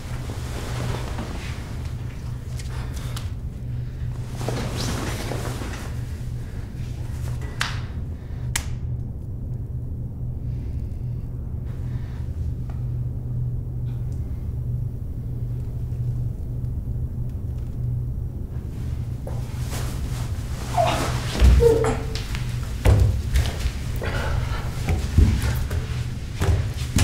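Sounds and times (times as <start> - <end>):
low rumbling drone: 0.0 - 27.0.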